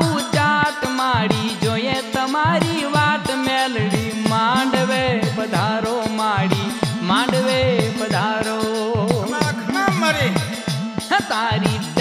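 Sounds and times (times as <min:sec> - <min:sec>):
sharp percussion clicks: 0:00.0 - 0:12.0.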